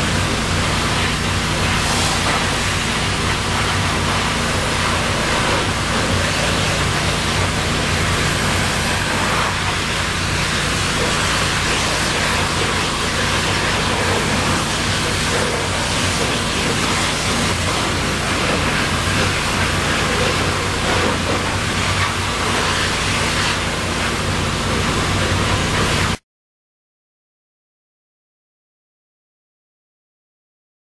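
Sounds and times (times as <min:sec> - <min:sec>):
pressure washer spray hissing: 0:00.0 - 0:26.2.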